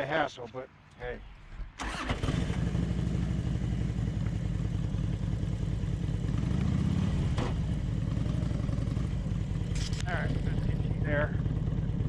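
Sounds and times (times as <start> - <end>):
motorcycle engine idling: 1.8 - 12.0.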